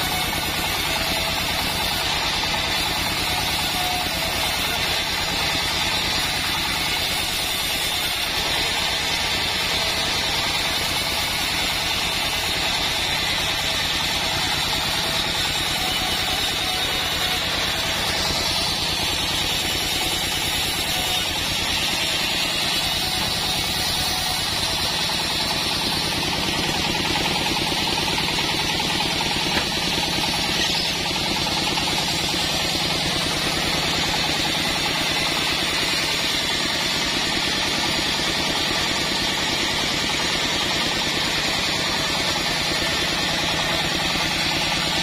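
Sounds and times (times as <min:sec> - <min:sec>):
sawmill engine drone: 0:00.0 - 0:45.0.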